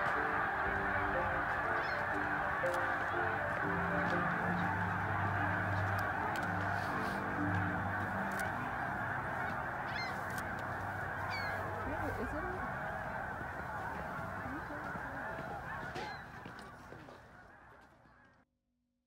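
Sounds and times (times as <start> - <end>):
geese honking: 0.0 - 18.3.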